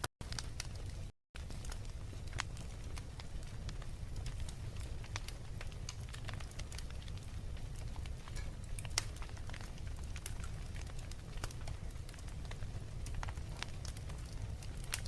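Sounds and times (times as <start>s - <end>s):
wood fire crackling and popping: 0.0s - 15.0s
low rumble of flames: 0.2s - 15.0s.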